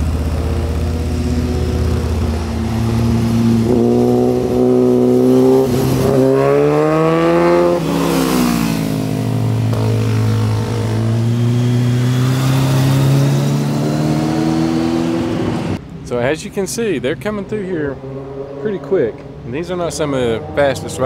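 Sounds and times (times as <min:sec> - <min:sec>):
motorcycles riding past: 0:00.0 - 0:15.8, 0:17.7 - 0:21.0.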